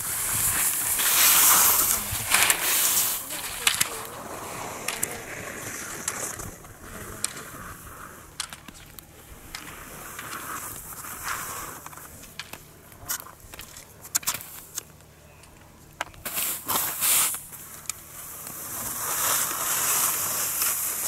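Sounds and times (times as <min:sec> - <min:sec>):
skis carving through snow: 0:00.0 - 0:12.4, 0:16.3 - 0:21.0.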